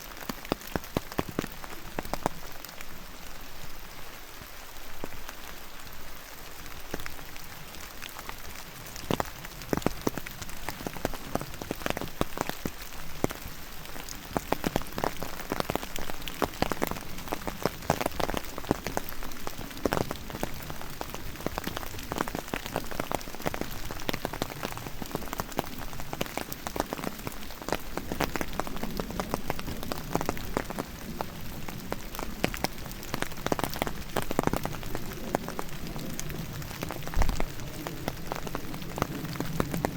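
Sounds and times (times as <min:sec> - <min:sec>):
raindrops and drips tapping: 0:00.0 - 0:39.9
steady rain falling: 0:00.0 - 0:39.9.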